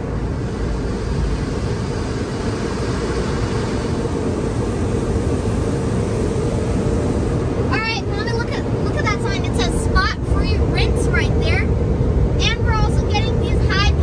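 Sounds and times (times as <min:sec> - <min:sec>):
car wash equipment rushing: 0:00.0 - 0:14.0.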